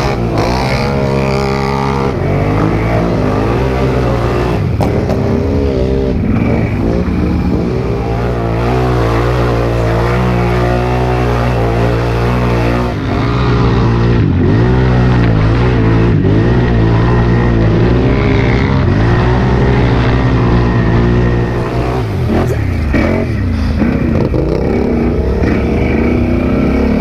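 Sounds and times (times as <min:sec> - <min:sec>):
atv engines revving: 0:00.0 - 0:27.0.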